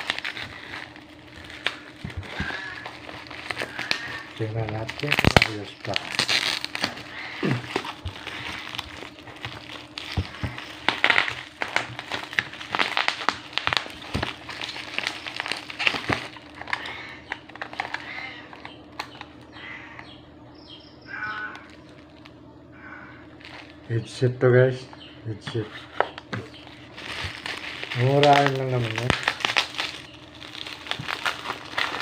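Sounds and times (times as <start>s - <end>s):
plastic packaging crinkling: 0.0s - 20.1s, 21.2s - 22.4s, 23.2s - 23.9s, 25.6s - 32.0s
faint steady hum: 0.0s - 32.0s.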